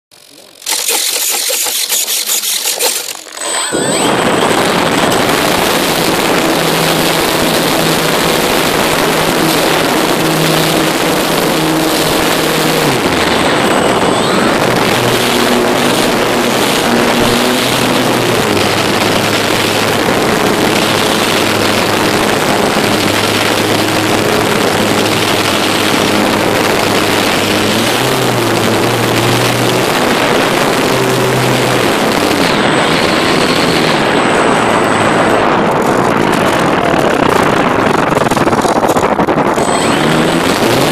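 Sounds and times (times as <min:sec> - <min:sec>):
electric motors humming: 0:00.1 - 0:35.6
wind rushing over microphone: 0:01.9 - 0:40.9.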